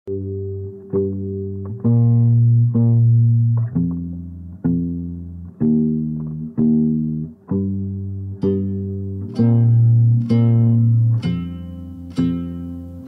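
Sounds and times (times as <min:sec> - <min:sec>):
deep bass line: 0:00.1 - 0:13.0
slow plucked notes: 0:00.1 - 0:13.0.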